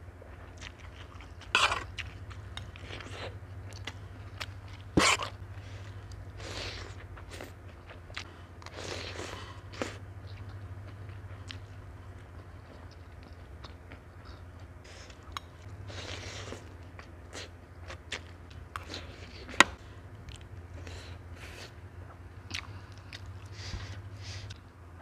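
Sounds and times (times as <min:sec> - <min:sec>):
chewing noodles: 0:00.2 - 0:24.6.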